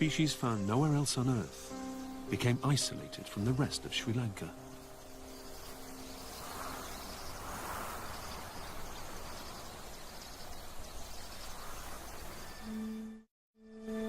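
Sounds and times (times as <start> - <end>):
steady rushing hiss: 0.0 - 12.8
faint insect sounds: 0.0 - 13.1.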